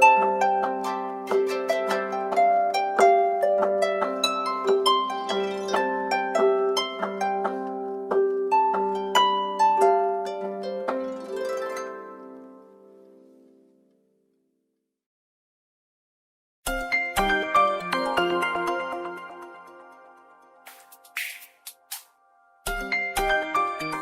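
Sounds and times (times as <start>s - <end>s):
ringtone melody of plucked notes: 0.0s - 12.8s, 16.7s - 24.0s.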